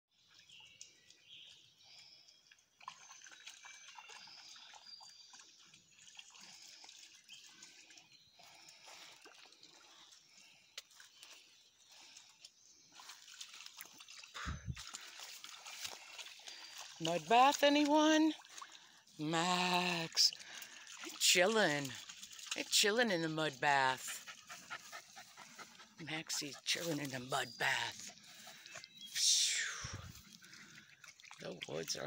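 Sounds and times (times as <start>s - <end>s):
water sloshing and dripping: 0.2s - 32.0s.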